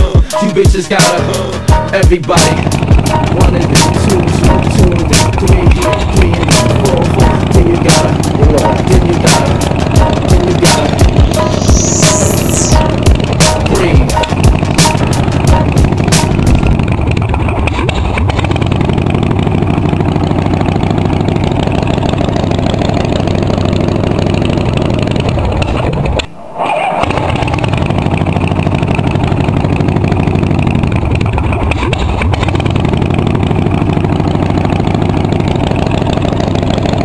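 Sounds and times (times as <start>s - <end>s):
motorcycle engine revving: 1.0s - 26.2s, 27.0s - 37.0s.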